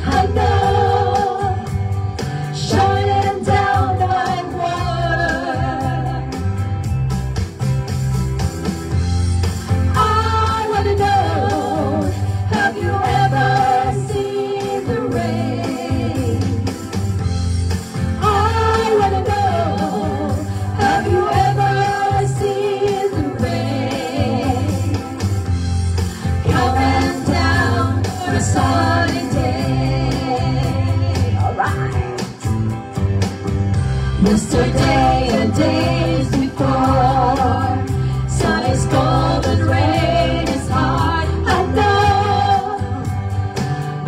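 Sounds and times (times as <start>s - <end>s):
women singing pop-rock song: 0.0s - 6.6s, 9.9s - 16.9s, 18.2s - 32.0s, 34.1s - 43.8s
backing track with bass beat: 0.0s - 44.0s.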